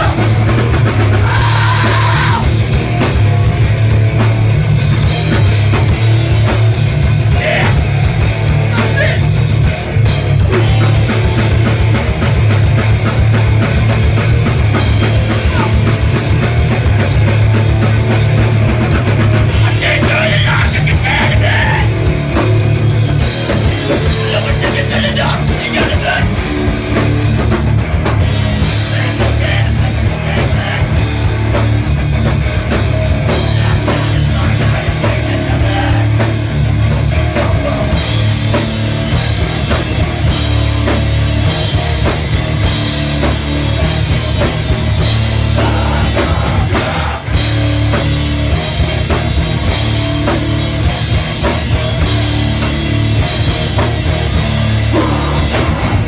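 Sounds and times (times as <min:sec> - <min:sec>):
punk band playing live: 0:00.0 - 0:56.0.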